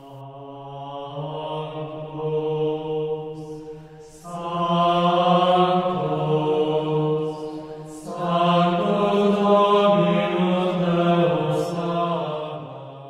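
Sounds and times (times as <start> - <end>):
slow chanting: 0.0 - 13.0.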